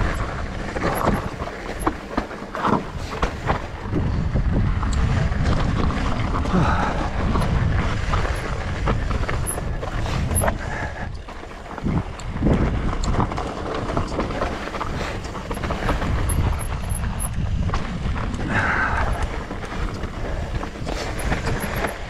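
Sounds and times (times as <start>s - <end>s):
bike rattling over rocks: 0.0s - 22.0s
wind buffeting microphone: 0.0s - 22.0s.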